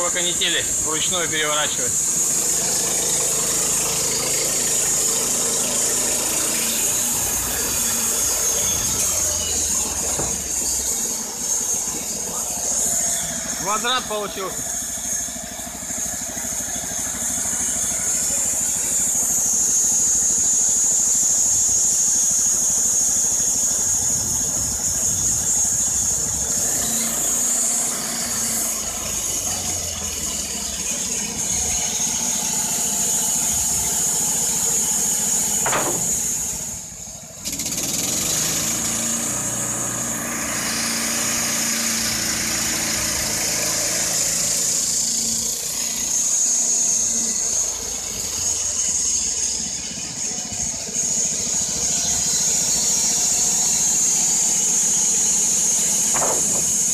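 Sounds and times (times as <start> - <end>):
band saw blade high whine: 0.0 - 56.9
petrol engine running under load: 0.0 - 56.9.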